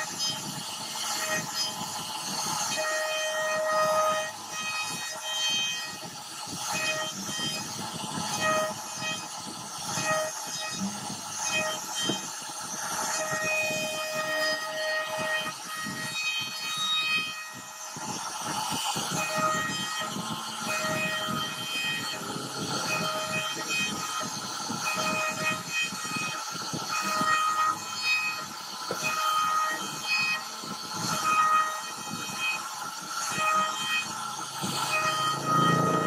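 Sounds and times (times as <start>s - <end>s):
router spindle whining: 0.0s - 36.0s.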